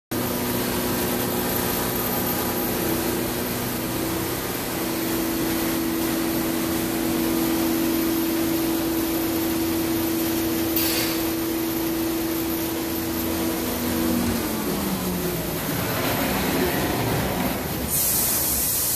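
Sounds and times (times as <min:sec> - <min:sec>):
router machine humming: 0:00.2 - 0:17.8.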